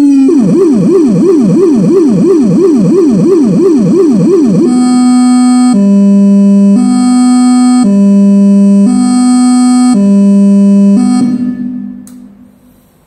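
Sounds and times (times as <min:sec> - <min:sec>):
two-tone electronic siren: 0:00.0 - 0:12.0.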